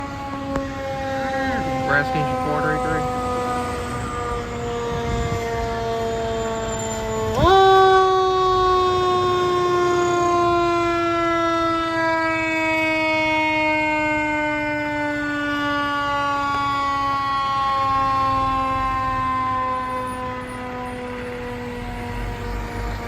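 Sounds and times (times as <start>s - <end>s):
fire engine siren: 0.0s - 23.0s.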